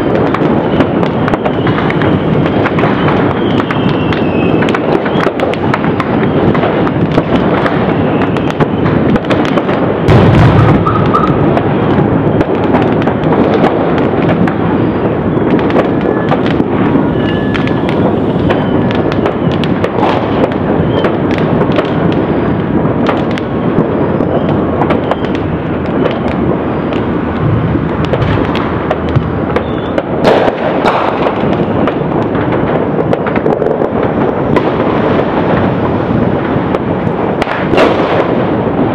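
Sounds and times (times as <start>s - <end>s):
deep firework boom: 0.0s - 38.9s
fireworks crackling: 0.0s - 38.9s.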